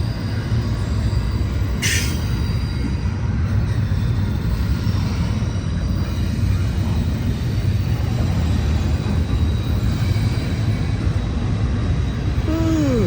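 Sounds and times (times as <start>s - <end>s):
train wheels rumbling on rail: 0.0s - 12.5s.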